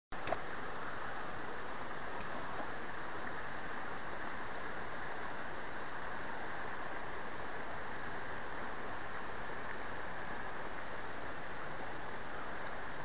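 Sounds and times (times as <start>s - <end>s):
stream rushing over rocks: 0.1s - 13.0s.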